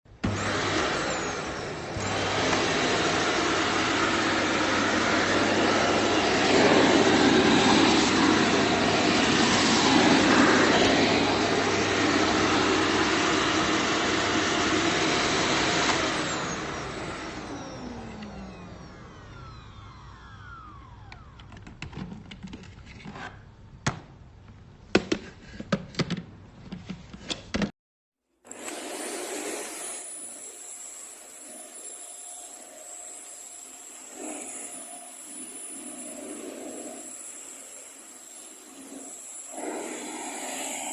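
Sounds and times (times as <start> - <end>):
vacuum cleaner running: 0.1 - 22.3, 28.4 - 40.9.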